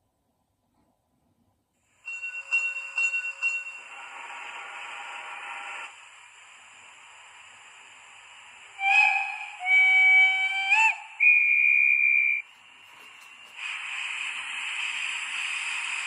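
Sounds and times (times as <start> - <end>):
hiss of steam: 3.0 - 16.0.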